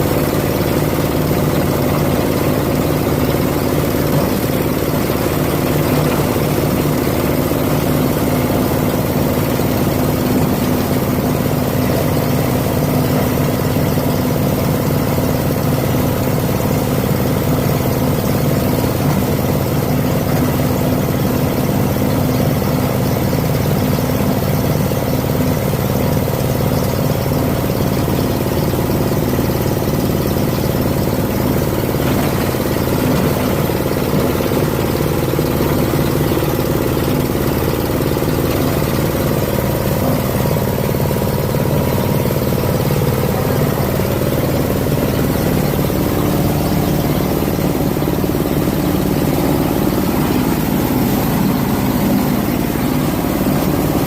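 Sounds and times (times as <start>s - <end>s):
grinding machine running: 0.0s - 54.0s.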